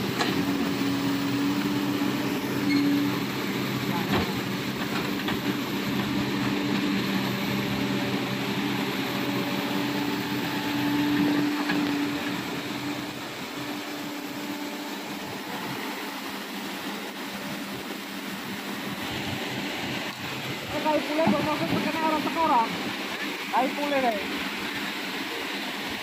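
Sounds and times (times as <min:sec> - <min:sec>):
excavator diesel engine: 0:00.0 - 0:26.0
water rushing: 0:00.0 - 0:26.0.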